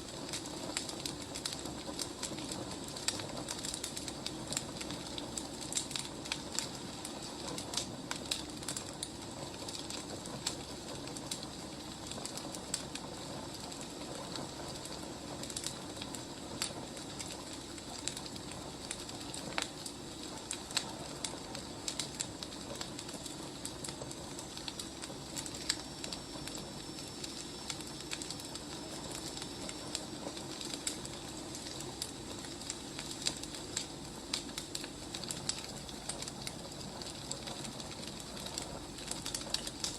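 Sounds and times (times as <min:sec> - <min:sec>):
low rumble and hiss: 0:00.0 - 0:39.9
wood fire crackling: 0:00.0 - 0:39.9.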